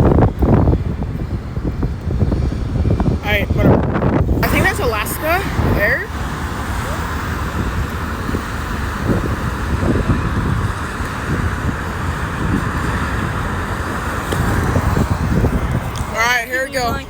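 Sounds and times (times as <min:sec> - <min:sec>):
engine roar: 0:00.0 - 0:17.0
wind buffeting microphone: 0:00.0 - 0:17.0.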